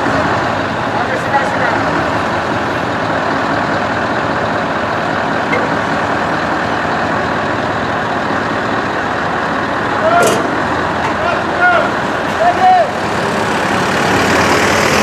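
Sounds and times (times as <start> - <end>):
diesel forklift engine running: 0.0 - 15.0.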